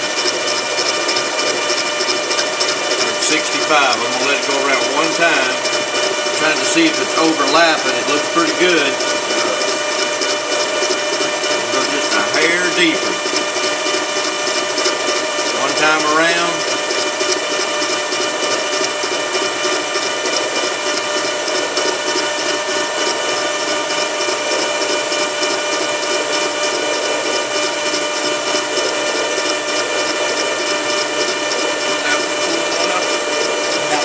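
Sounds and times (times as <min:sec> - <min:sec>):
lathe whining: 0:00.0 - 0:34.0.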